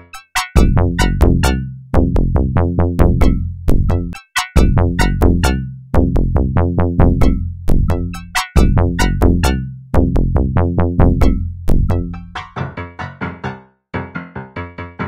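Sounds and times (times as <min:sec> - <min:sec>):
electronic music with synth and bass: 0:00.0 - 0:14.5.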